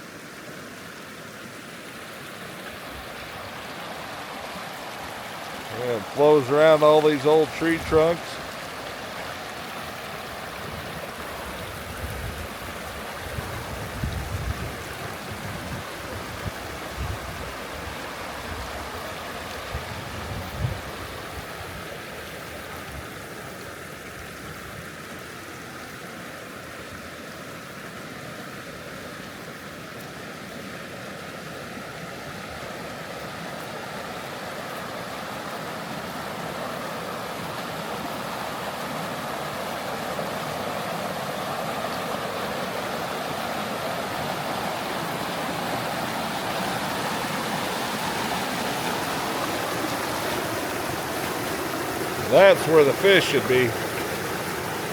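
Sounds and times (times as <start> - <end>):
creek water flowing over gravel: 0.0 - 54.9.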